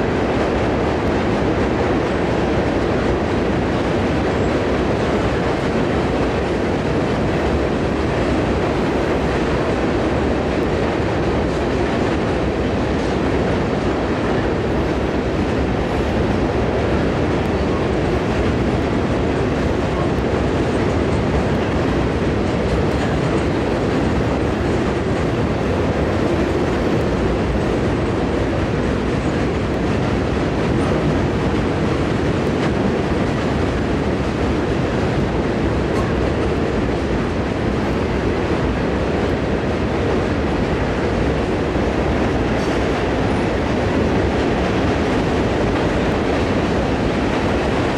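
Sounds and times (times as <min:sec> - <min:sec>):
train wheels rumbling on track: 0:00.0 - 0:47.9
wheels clickety-clack: 0:00.1 - 0:47.9.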